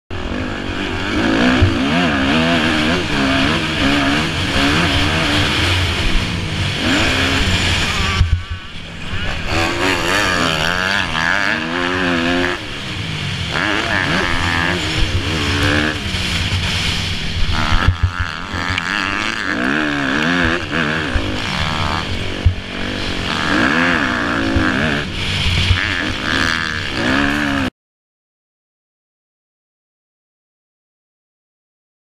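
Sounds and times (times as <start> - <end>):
dirt bike engine revving: 0.1 - 27.7.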